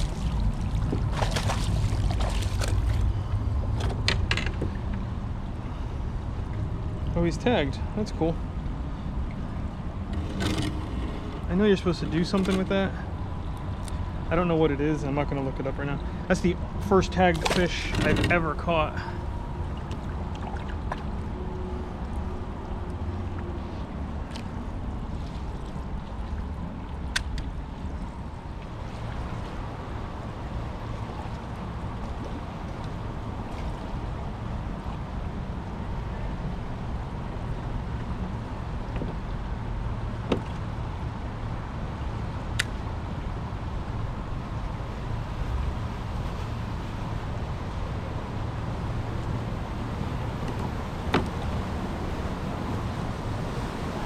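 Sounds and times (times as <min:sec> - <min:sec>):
water around kayak: 0:00.0 - 0:54.0
wind: 0:00.0 - 0:54.0.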